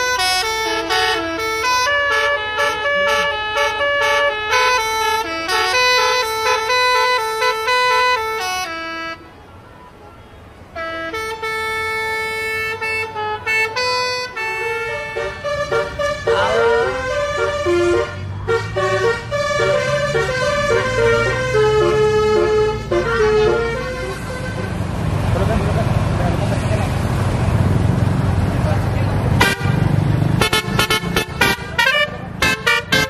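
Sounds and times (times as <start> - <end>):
bus air horn playing tune: 0.0 - 9.4, 10.2 - 24.8, 29.4 - 33.0
low engine rumble: 0.0 - 33.0.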